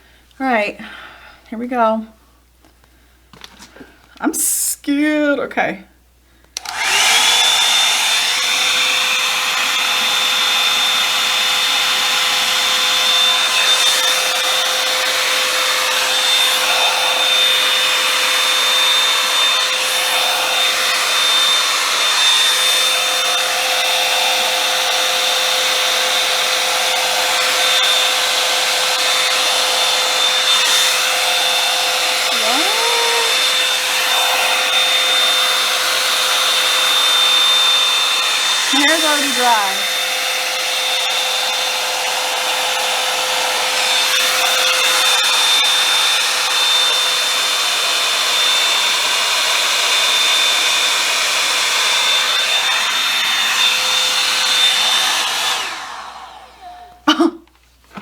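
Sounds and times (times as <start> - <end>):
hot-air brush whine and rushing air: 6.6 - 57.0.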